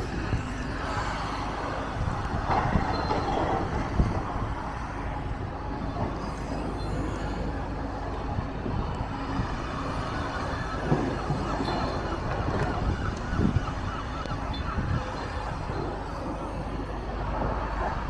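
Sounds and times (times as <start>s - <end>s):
demolition machinery rumbling: 0.0s - 18.0s.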